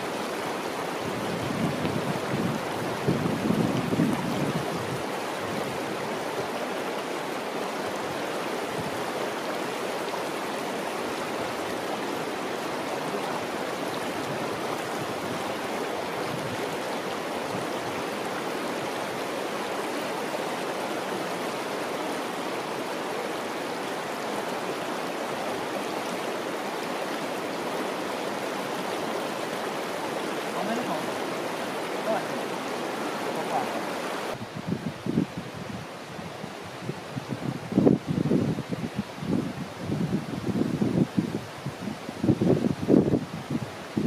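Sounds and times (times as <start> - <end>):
flowing water rushing: 0.0 - 44.0.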